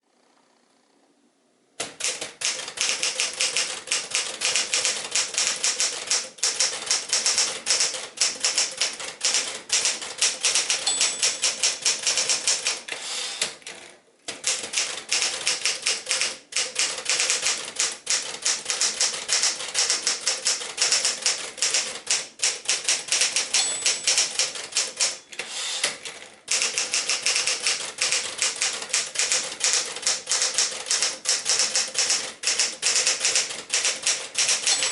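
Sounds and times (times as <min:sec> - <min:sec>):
typewriter typing: 0:01.8 - 0:34.9
typewriter margin bell: 0:02.0 - 0:12.8, 0:14.5 - 0:25.5, 0:26.5 - 0:34.9.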